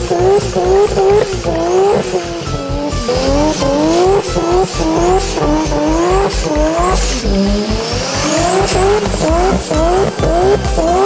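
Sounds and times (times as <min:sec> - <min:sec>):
synthetic race car engine revving: 0:00.0 - 0:11.0.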